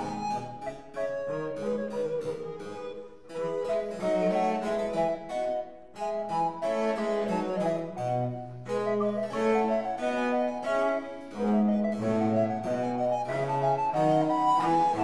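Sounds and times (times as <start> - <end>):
plucked harpsichord notes: 0.0 - 15.0.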